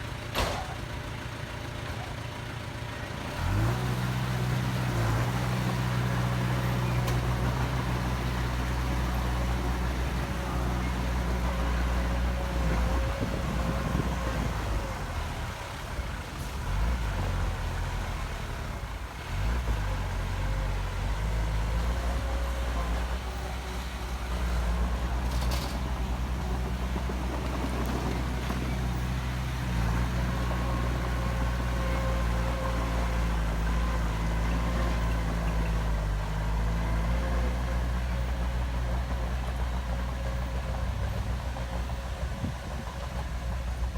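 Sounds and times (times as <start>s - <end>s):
heavy diesel engine droning: 0.0s - 43.9s.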